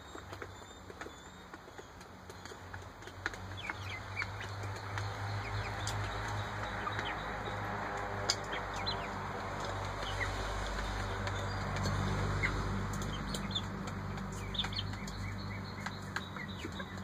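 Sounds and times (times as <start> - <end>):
chicks peeping: 0.0 - 17.0
beaks pecking metal bowl: 0.1 - 17.0.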